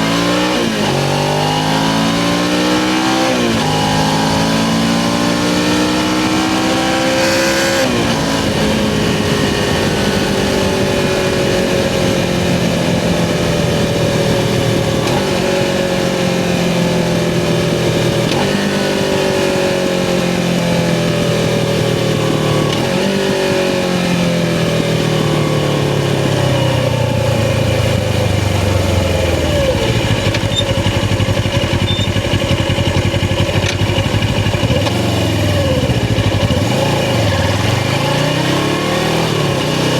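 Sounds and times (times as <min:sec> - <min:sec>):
motorcycle engine riding: 0:00.0 - 0:39.9
wind and road noise: 0:00.0 - 0:39.9.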